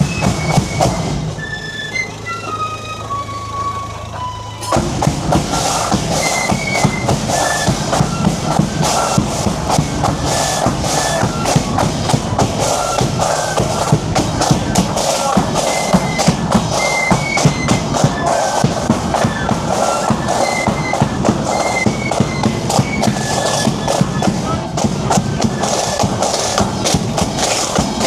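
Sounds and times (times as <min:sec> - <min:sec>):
drums beating: 0:00.0 - 0:28.0
marching band playing: 0:00.0 - 0:28.0.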